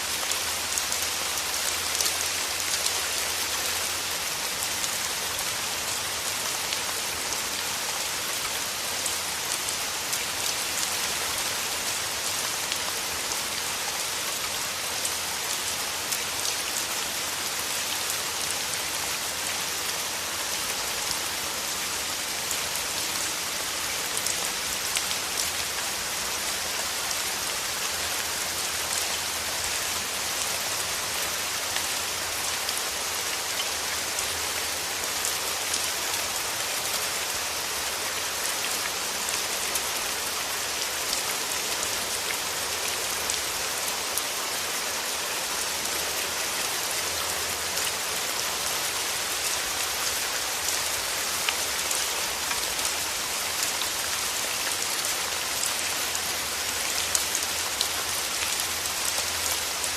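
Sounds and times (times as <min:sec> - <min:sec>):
rain on leaves: 0:00.0 - 0:59.9.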